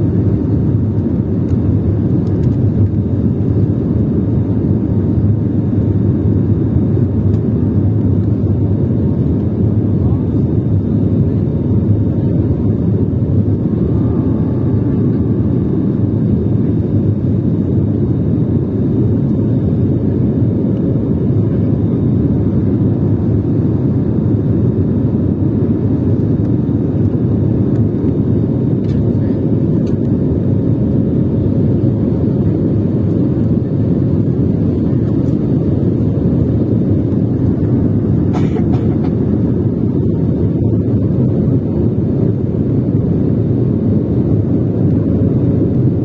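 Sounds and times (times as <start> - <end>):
airplane engines rumbling: 0.0 - 46.0
faint steady whine: 0.0 - 46.0.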